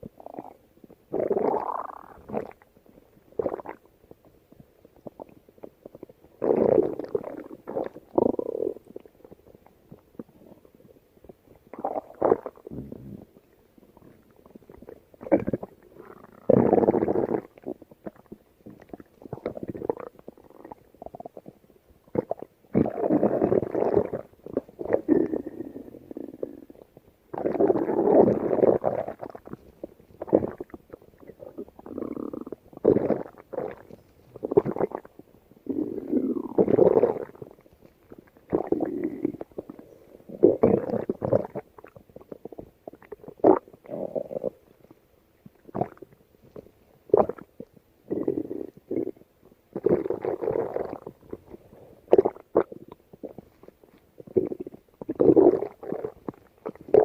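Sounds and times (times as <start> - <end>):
stomach growling and gurgling: 0.0 - 57.0.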